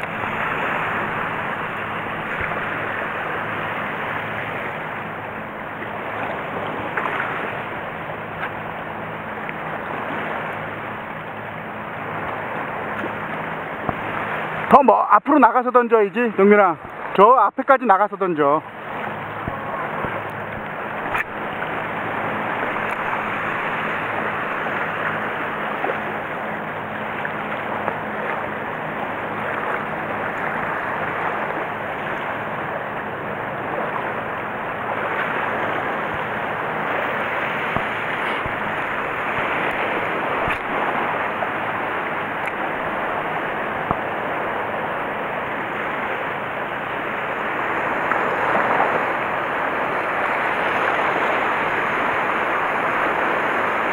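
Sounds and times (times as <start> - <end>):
small waves washing: 0.0 - 53.9.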